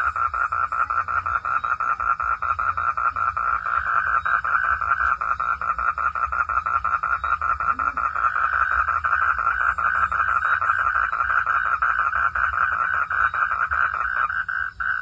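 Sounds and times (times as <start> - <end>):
frog pulsed trill: 0.0 - 15.0.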